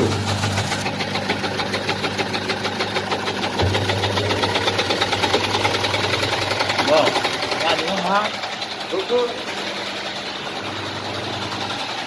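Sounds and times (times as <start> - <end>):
washing machine rattling knock: 0.0 - 9.8.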